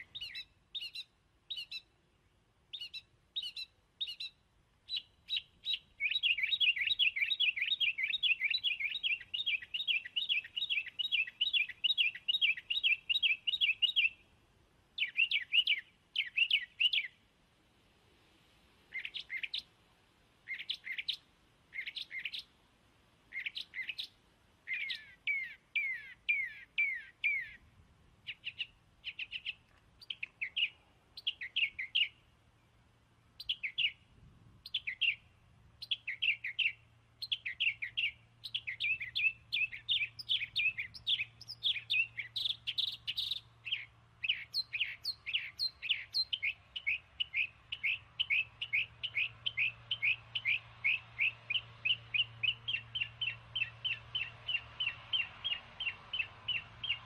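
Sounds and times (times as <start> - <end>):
small bird chirping: 0.0 - 2.0, 2.7 - 17.2, 18.9 - 19.8, 20.4 - 22.6, 23.3 - 32.3, 33.3 - 57.0.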